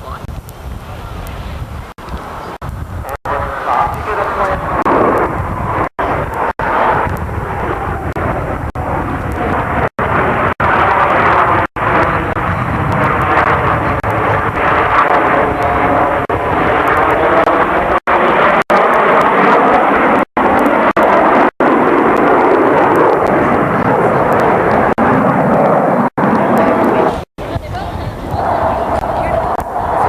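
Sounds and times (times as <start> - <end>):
aircraft roaring past: 3.1 - 30.0.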